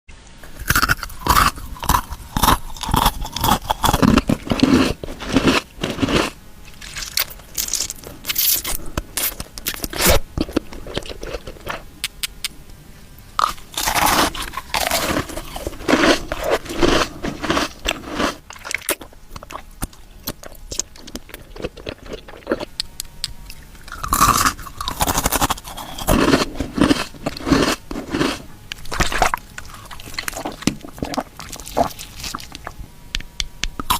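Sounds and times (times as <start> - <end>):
crunchy chewing and biting: 0.4 - 12.5, 13.4 - 33.9.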